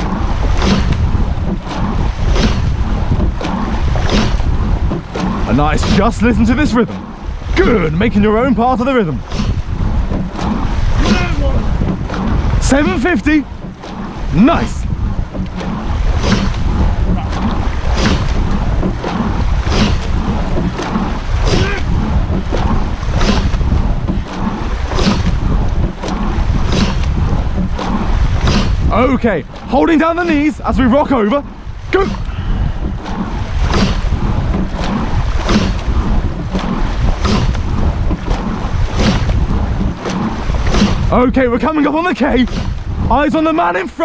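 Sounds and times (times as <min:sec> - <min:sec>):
oars swishing and clunking: 0:00.0 - 0:44.0
wind rumbling on microphone: 0:00.0 - 0:44.0.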